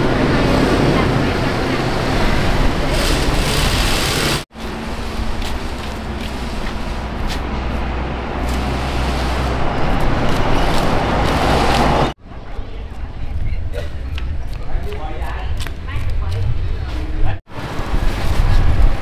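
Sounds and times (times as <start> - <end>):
roadside traffic rumble: 0.0 - 19.0.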